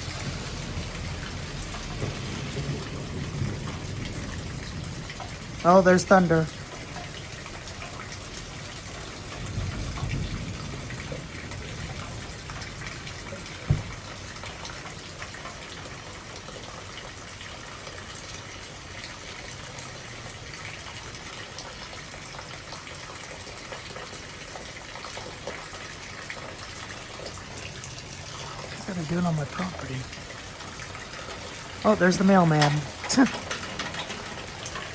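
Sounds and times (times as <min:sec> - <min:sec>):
heavy rain pouring: 0:00.0 - 0:34.9
water gushing from gutters: 0:00.0 - 0:34.9.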